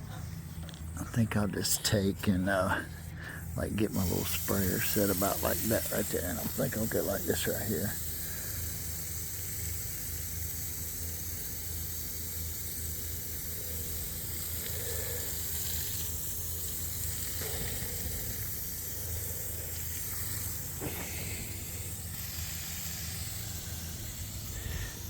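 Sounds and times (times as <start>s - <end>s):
hose nozzle spraying water: 3.3s - 25.0s.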